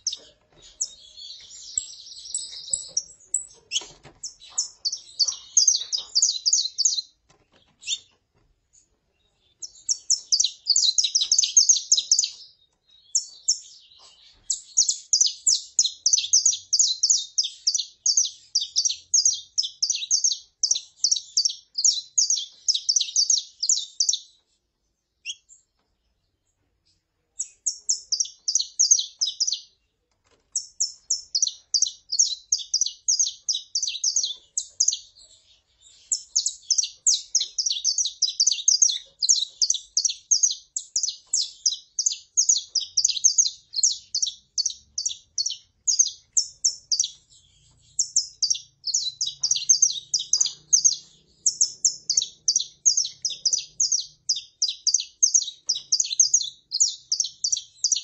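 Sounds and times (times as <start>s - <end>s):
finch calling: 0.0s - 8.2s, 9.4s - 24.4s, 27.4s - 29.7s, 30.6s - 58.0s
finch singing: 0.0s - 58.0s.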